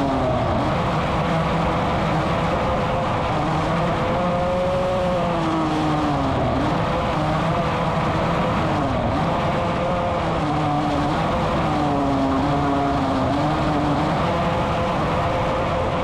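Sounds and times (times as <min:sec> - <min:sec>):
racing car engine: 0:00.0 - 0:16.0.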